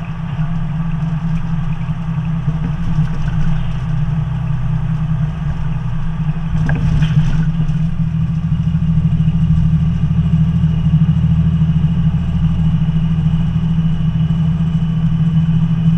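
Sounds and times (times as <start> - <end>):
diesel truck engine drone: 0.0 - 15.9.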